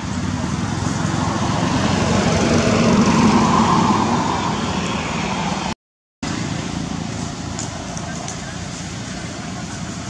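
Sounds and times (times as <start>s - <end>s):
loud rushing noise: 0.0s - 10.0s.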